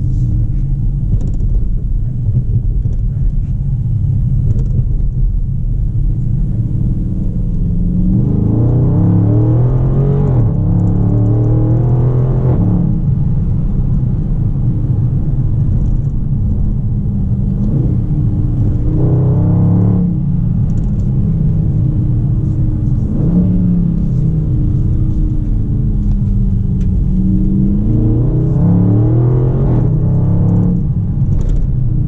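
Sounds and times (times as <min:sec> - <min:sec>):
car engine and exhaust rumbling: 0:00.0 - 0:32.0.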